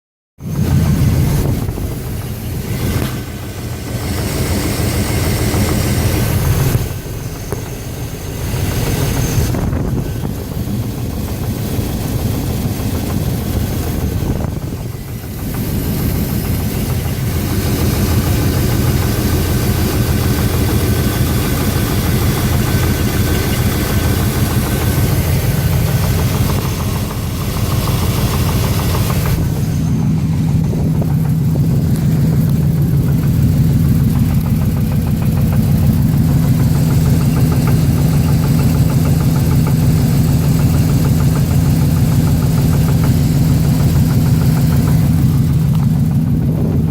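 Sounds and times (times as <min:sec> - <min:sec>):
car engine running: 0:00.4 - 0:46.9.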